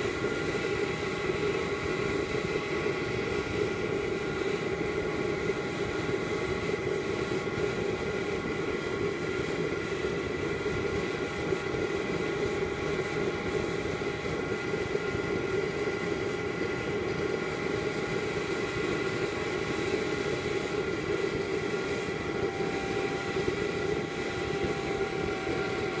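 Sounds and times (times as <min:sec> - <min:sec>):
multi-tone whine: 0:00.0 - 0:26.0
stove flame rushing burn: 0:00.0 - 0:26.0.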